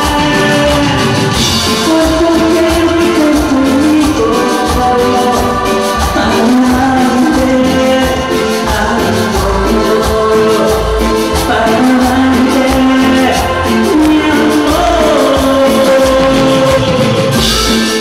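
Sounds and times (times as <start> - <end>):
latin dance music: 0.0 - 18.0
person singing: 0.0 - 18.0
steady bass beat: 0.0 - 18.0.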